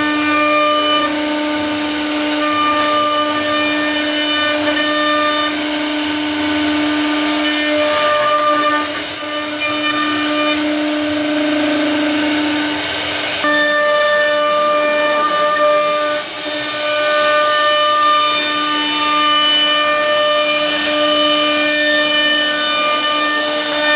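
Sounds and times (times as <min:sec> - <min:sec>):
hiss of bit cutting wood: 0:00.0 - 0:23.9
router spindle whine: 0:00.0 - 0:23.9.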